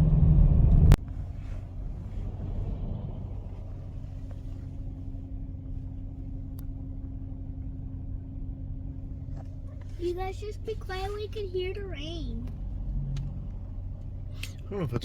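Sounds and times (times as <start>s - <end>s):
quiet engine hum: 0.0s - 15.0s
truck cab engine and road rumble: 0.0s - 15.0s.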